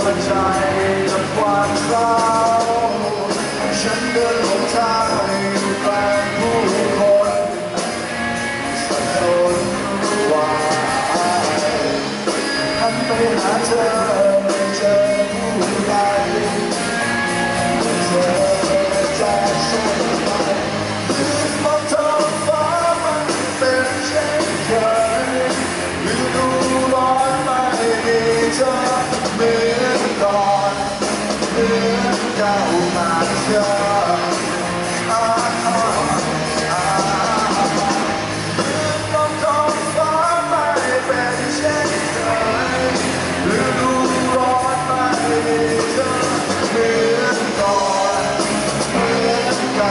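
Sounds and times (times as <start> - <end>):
live rock band playing: 0.0 - 49.9
male singer singing: 0.0 - 49.9.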